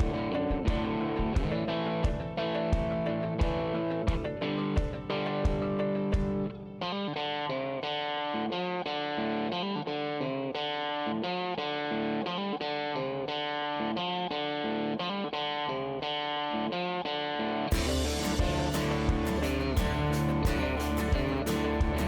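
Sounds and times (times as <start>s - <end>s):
distorted electric guitar music: 0.0s - 22.0s.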